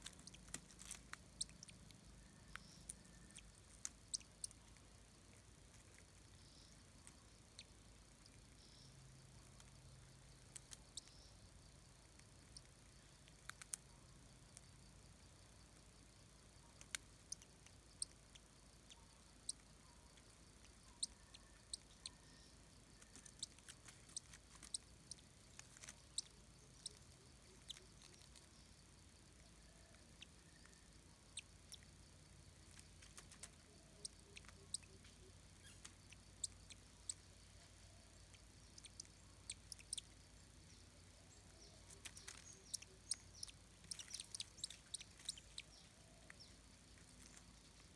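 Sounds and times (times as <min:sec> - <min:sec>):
faint high chirps: 0:00.0 - 0:47.9
faint sharp clicks and ticks: 0:00.0 - 0:47.9.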